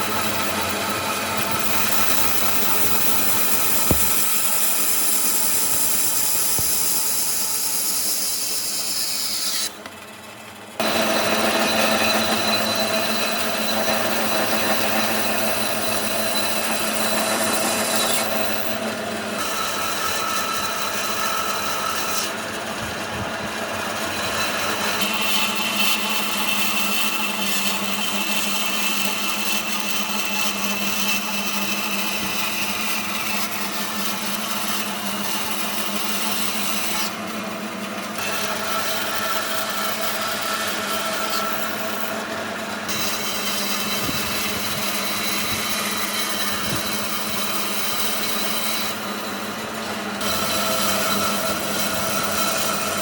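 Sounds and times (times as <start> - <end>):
power tools cutting wood: 0.0 - 10.0, 10.8 - 53.0.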